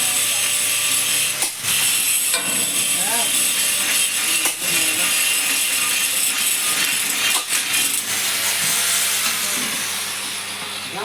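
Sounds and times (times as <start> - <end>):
threshing machine rattling: 0.0 - 9.8.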